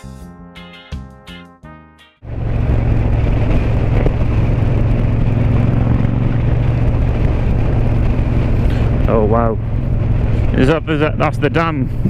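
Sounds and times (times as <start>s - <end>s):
motorcycle engine cruising: 2.2s - 12.0s
wind rush on microphone: 2.2s - 12.0s.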